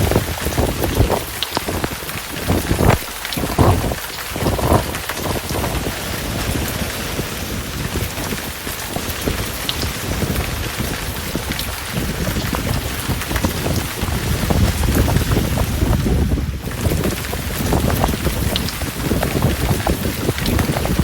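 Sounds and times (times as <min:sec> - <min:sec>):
heavy rain pouring: 0:00.0 - 0:21.0
thunder rumbling: 0:00.0 - 0:21.0.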